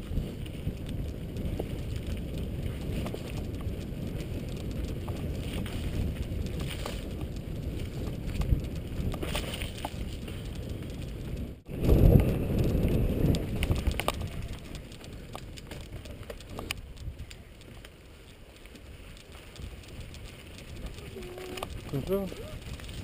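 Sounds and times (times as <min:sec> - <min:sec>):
bike rolling over dirt: 0:00.0 - 0:23.0
tyre and frame ticks: 0:00.0 - 0:23.0.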